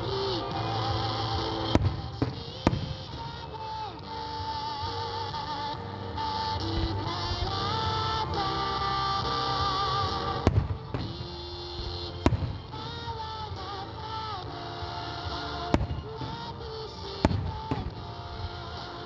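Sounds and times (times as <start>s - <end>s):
music with sustained tones: 0.0s - 19.0s.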